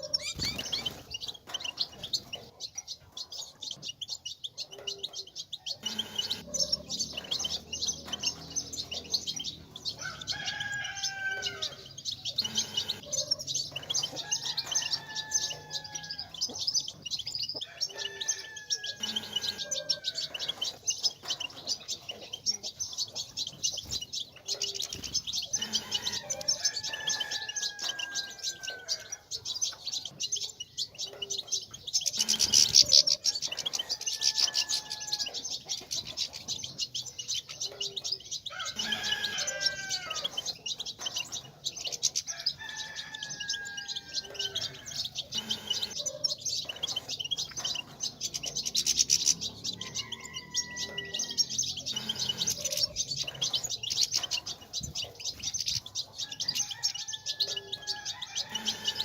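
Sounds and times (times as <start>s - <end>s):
finch twittering: 0.0s - 59.0s.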